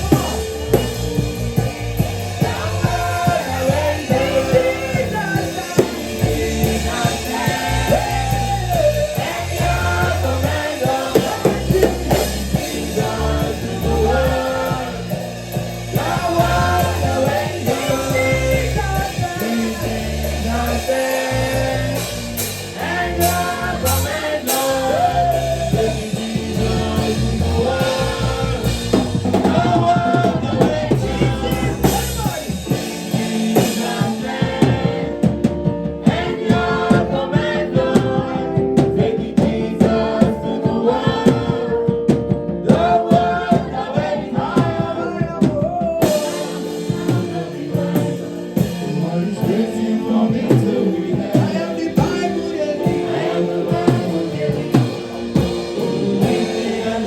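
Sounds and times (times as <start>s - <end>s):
deep bass: 0.0s - 46.3s
band with drum kit: 0.0s - 57.0s
voices singing gospel: 0.0s - 57.0s.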